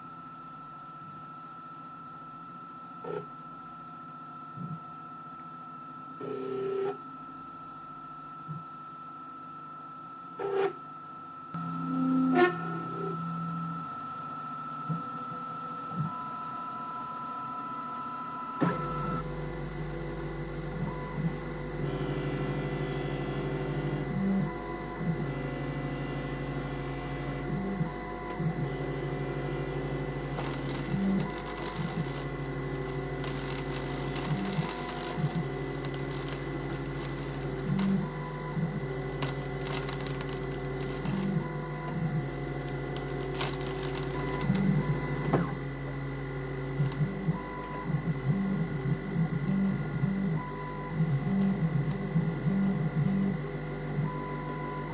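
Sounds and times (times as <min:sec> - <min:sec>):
lathe motor hum and whine: 0:00.0 - 0:54.9.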